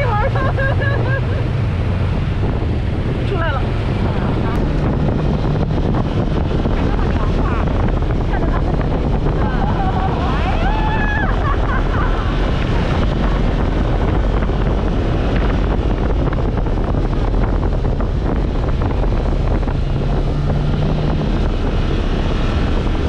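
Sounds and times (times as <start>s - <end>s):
off-road vehicle engine running: 0.0s - 23.0s
wind buffeting microphone: 0.0s - 23.0s.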